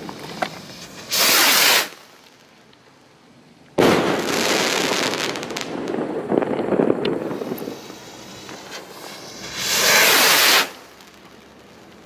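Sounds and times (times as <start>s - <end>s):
firework bang: 0.0s - 2.0s, 3.8s - 12.0s
firework rocket launching hiss: 0.0s - 2.4s, 3.8s - 6.0s, 6.7s - 12.0s
firework crackling: 0.0s - 12.0s.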